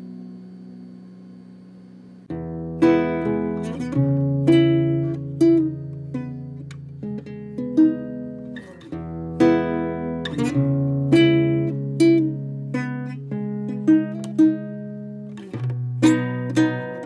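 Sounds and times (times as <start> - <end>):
acoustic guitar picking melody: 2.3 - 17.0.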